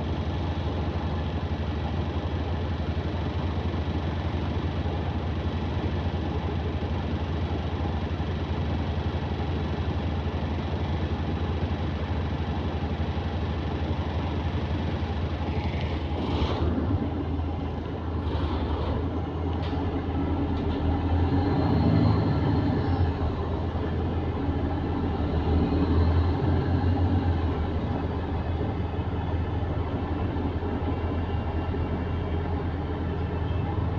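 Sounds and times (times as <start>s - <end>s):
bus engine hum: 0.0s - 33.9s
road noise: 0.0s - 33.9s.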